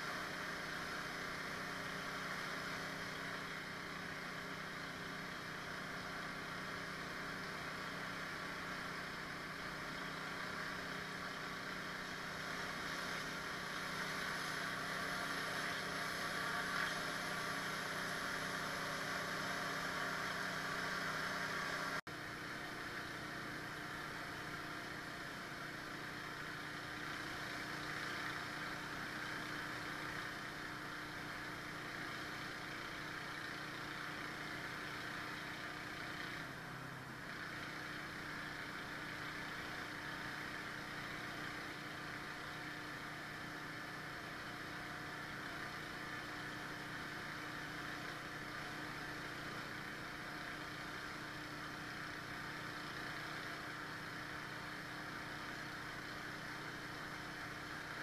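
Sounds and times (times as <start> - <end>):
pressure washer engine running: 0.0 - 58.0.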